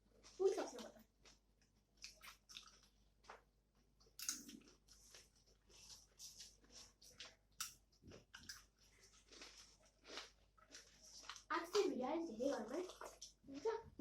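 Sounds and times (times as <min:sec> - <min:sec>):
chewing crisp food: 0:00.0 - 0:14.0.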